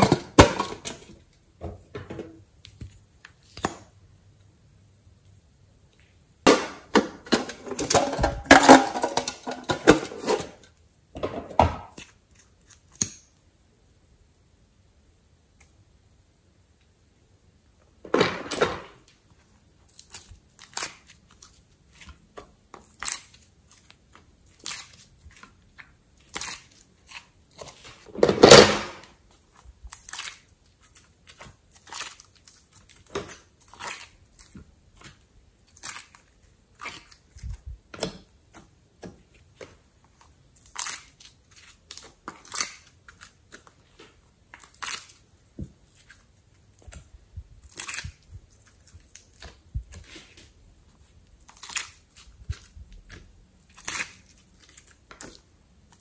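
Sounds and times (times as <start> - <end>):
clay clicking and squishing: 0.0 - 14.0, 18.9 - 56.0.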